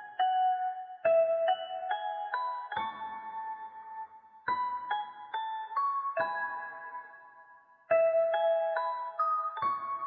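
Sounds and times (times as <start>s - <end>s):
soft lullaby music: 0.0s - 10.0s.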